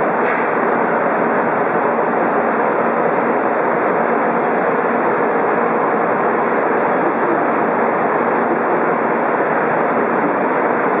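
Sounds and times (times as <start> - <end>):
train steady rushing noise: 0.0 - 11.0.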